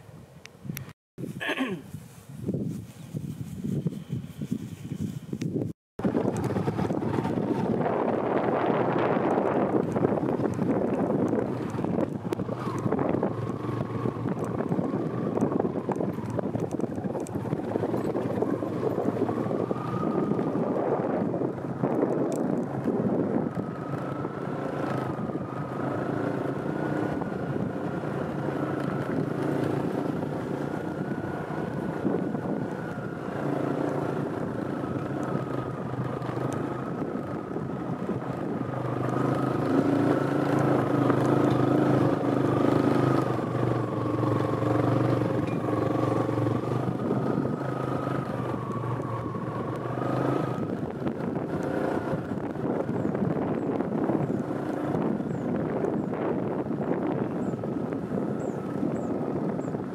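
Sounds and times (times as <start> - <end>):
motorbike engine running: 6.0 - 59.9.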